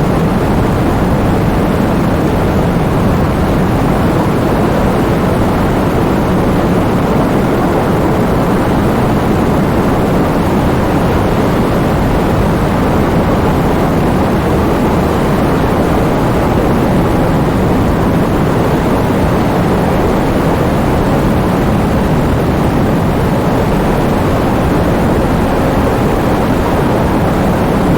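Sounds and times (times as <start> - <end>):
wind and heavy rain: 0.0 - 27.9.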